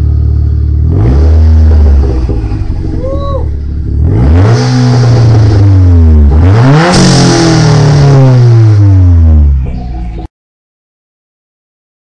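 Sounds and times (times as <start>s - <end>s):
car engine revving: 0.0s - 10.3s.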